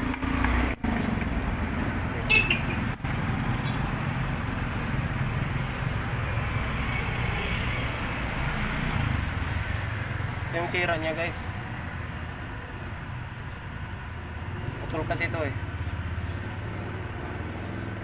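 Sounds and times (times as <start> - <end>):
low rumble of road traffic: 0.0 - 18.0.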